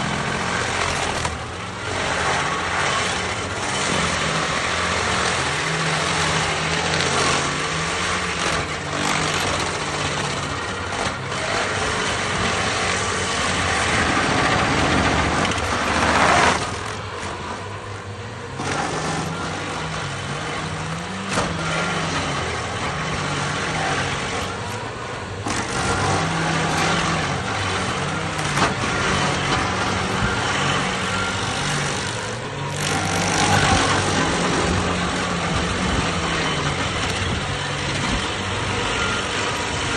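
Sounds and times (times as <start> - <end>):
stump grinder engine: 0.0 - 39.9.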